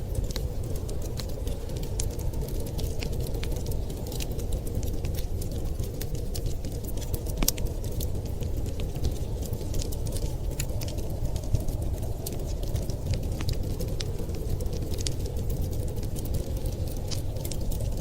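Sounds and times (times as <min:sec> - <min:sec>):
steady low rumble: 0:00.0 - 0:18.0
wood fire crackling and popping: 0:00.0 - 0:18.0.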